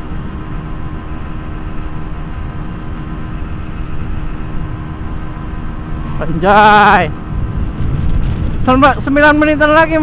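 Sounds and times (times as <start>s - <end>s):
wind rush on microphone: 0.0s - 10.0s.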